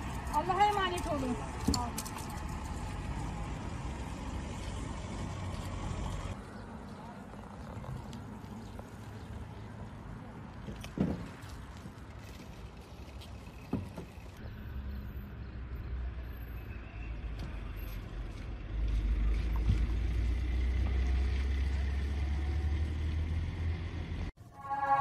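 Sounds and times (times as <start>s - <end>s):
low street rumble: 0.0s - 25.0s.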